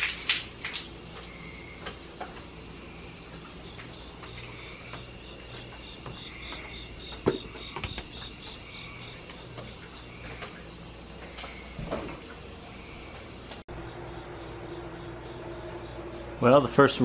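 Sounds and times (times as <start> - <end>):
insects chirping: 0.0 - 17.0
pulsing insect trill: 0.0 - 17.0.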